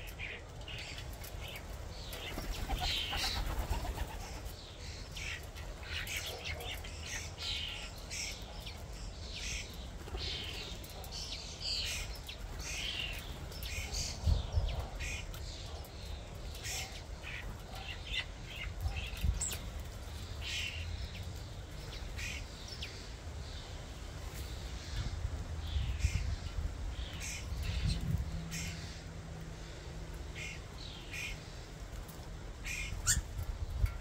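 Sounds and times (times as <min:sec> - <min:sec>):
starlings chirping harshly: 0:00.0 - 0:31.8, 0:32.6 - 0:34.0.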